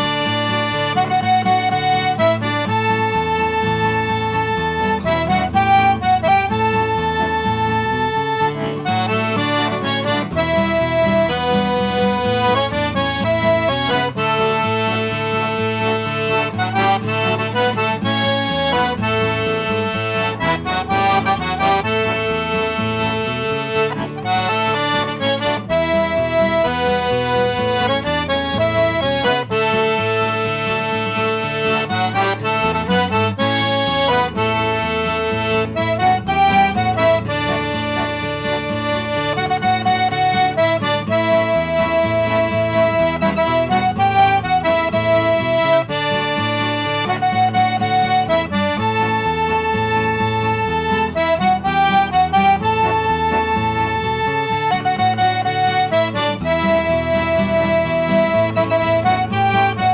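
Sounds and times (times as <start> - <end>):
accordion playing waltz melody: 0.0 - 59.9
acoustic guitar accompaniment: 0.0 - 59.9.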